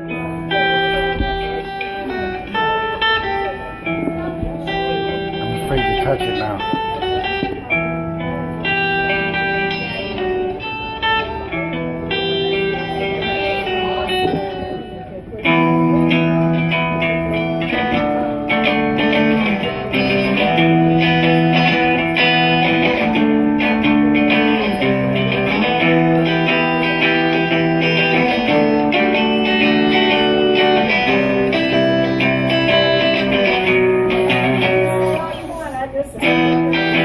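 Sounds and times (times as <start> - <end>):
electric guitar playing: 0.0 - 37.0.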